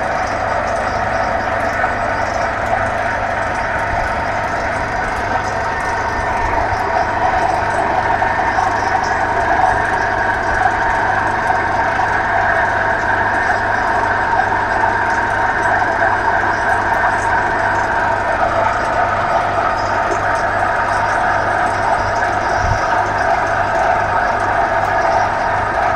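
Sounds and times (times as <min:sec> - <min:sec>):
piling machinery engine drone: 0:00.0 - 0:25.9
steady high hum: 0:00.0 - 0:25.9.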